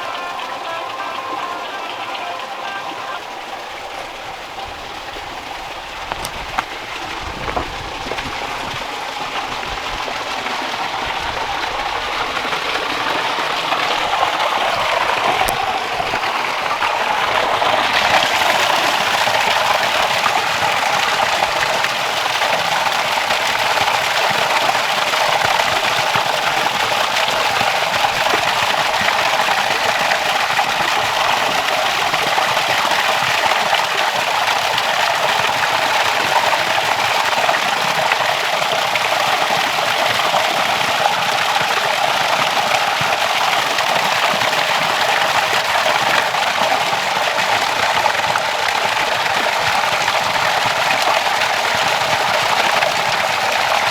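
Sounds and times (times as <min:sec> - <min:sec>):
small waterfall rushing: 0:00.0 - 0:53.9.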